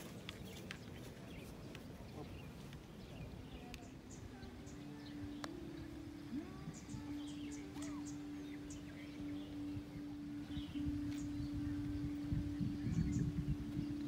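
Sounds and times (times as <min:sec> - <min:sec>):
small birds chirping: 0:00.0 - 0:14.0
steady low hum: 0:00.0 - 0:14.0
wind rumble on microphone: 0:00.0 - 0:14.0.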